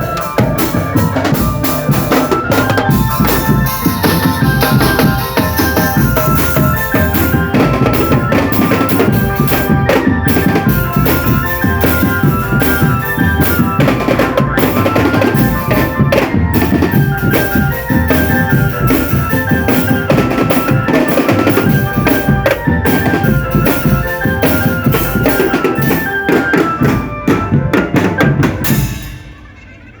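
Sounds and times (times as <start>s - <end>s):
bass drums: 0.0s - 29.3s
high melody line: 0.0s - 29.3s
snare drums: 0.0s - 29.4s.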